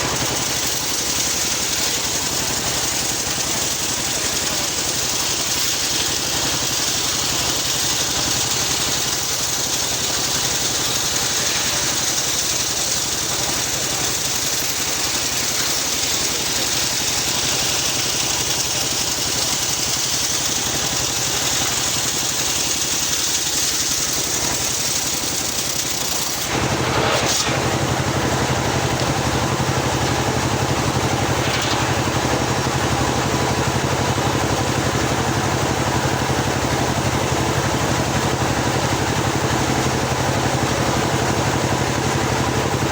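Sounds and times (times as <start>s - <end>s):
circular sawmill ripping a log: 0.0s - 42.9s.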